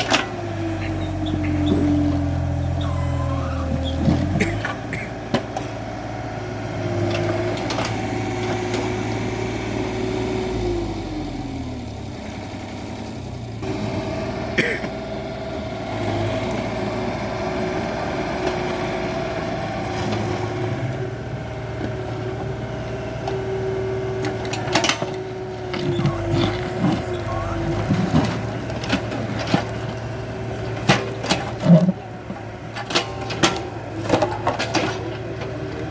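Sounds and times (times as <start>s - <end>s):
excavator diesel engine and hydraulics: 0.0s - 35.9s.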